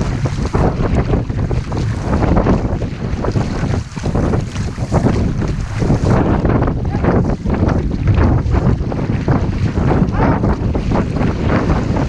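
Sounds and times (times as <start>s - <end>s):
water splashing along hull: 0.0s - 12.0s
wind buffeting microphone: 0.0s - 12.0s.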